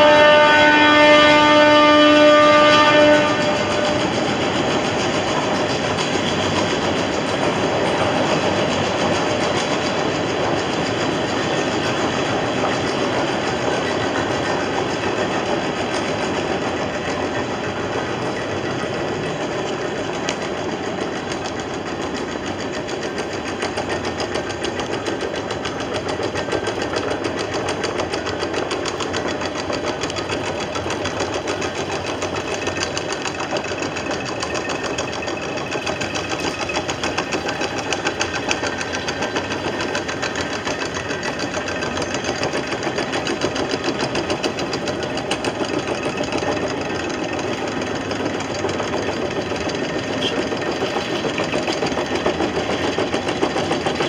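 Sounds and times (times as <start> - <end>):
chain clattering over winch drums: 4.0 - 54.0.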